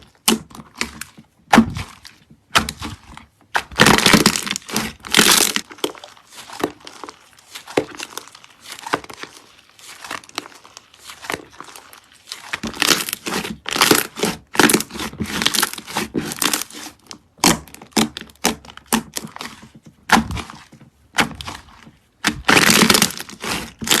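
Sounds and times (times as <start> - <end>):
slime crackling and popping: 0.0 - 24.0.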